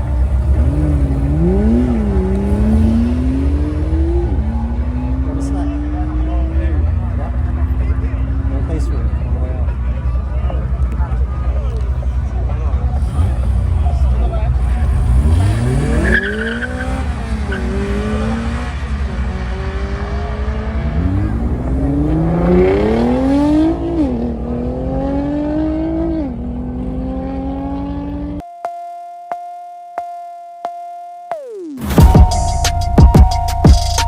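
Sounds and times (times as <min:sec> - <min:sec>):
car engine accelerating: 0:00.0 - 0:28.4.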